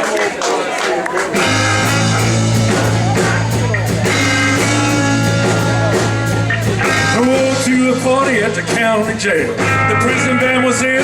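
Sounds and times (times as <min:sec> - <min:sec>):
live rock band playing: 0:00.9 - 0:11.0
drum hits: 0:01.3 - 0:11.0.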